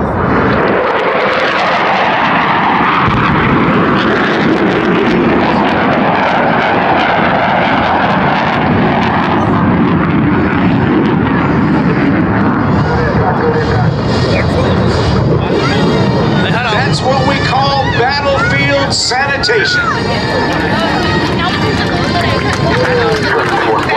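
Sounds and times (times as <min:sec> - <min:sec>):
airplane engine: 0:00.0 - 0:23.9.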